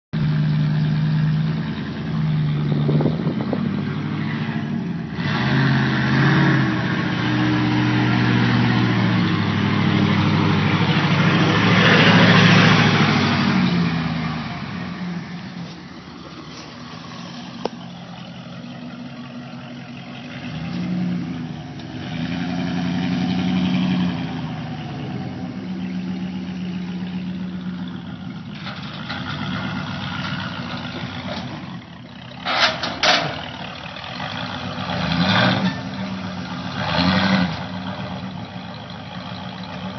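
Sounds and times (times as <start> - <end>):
pickup engine revving: 0.2 - 39.9.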